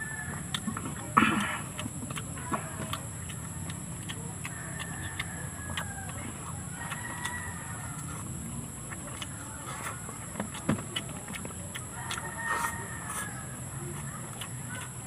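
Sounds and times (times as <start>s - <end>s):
chewing clicks and smacks: 0.0s - 15.0s
chickens clucking: 0.0s - 15.0s
steady background hum: 0.0s - 15.0s.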